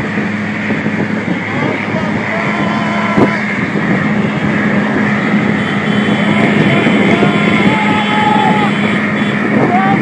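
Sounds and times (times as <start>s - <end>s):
road and wind noise: 0.0s - 10.0s
truck diesel engine humming: 0.0s - 10.0s.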